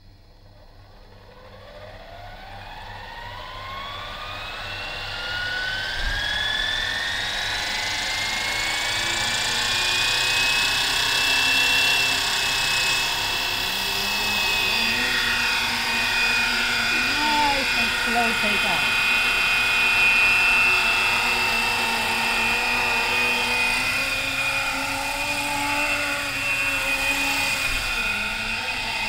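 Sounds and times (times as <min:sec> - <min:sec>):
model helicopter motor and rotor whine: 0:00.1 - 0:29.0.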